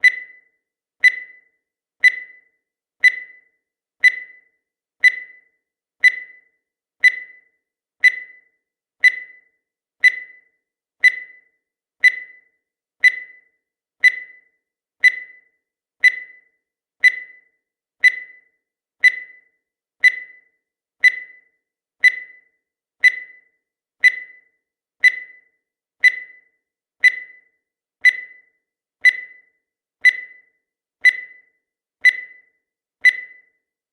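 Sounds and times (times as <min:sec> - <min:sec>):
timer ticking: 0:00.0 - 0:33.7.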